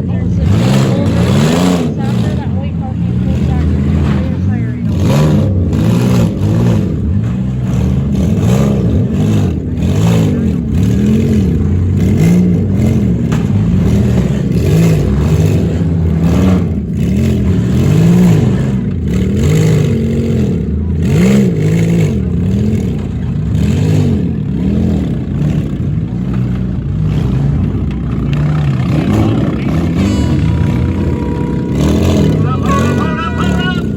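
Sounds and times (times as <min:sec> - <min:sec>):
car engines revving hard: 0:00.0 - 0:33.9.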